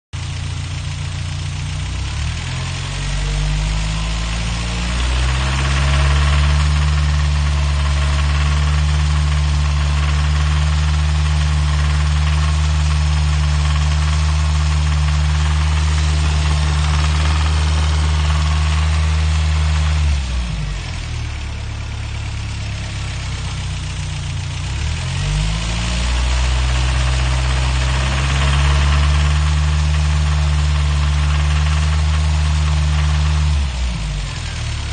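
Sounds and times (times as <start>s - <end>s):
engine running with knocking: 0.2s - 34.9s.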